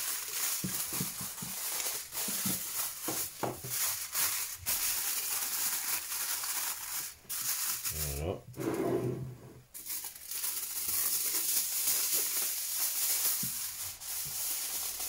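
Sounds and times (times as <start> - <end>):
aluminium foil crinkling: 0.0 - 8.4, 9.7 - 15.0.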